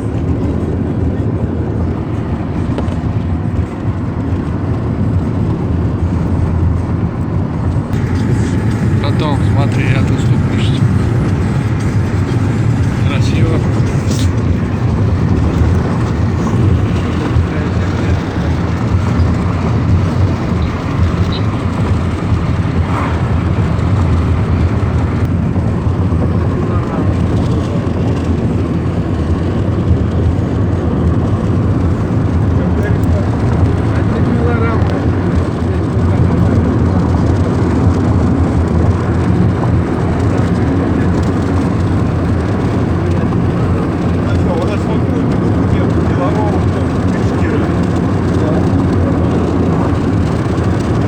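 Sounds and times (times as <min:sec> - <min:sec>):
road and engine rumble in car: 0:00.0 - 0:51.0.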